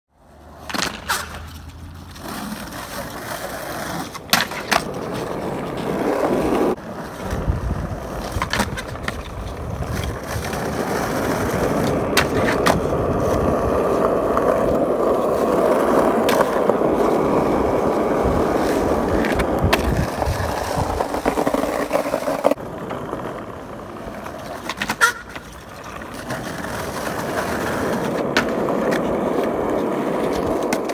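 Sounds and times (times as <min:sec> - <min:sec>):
skateboard wheels rolling on asphalt: 0:00.1 - 0:30.9
skateboard clacking on ground: 0:00.2 - 0:30.9.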